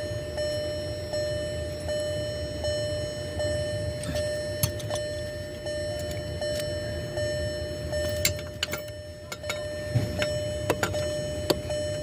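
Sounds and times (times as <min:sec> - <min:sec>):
low hum with whine: 0:00.0 - 0:12.0.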